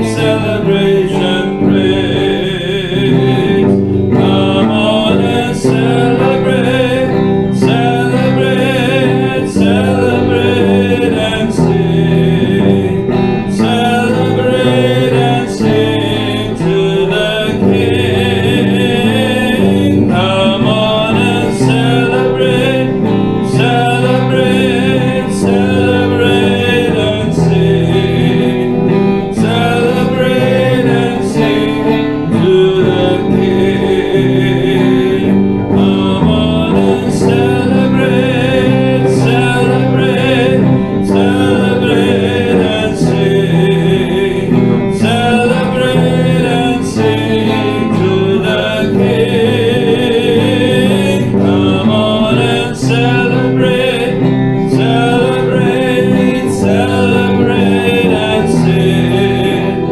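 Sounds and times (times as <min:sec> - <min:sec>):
worship band music with guitar: 0:00.0 - 0:59.9.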